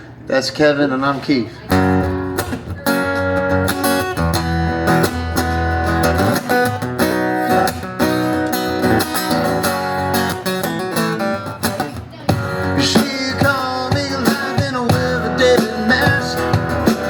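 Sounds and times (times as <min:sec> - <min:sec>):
acoustic guitar strumming: 0:01.5 - 0:17.0.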